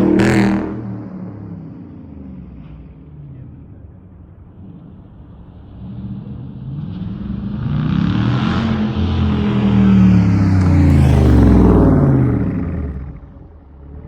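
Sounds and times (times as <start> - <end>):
car engine exhaust roar: 0.0 - 14.0.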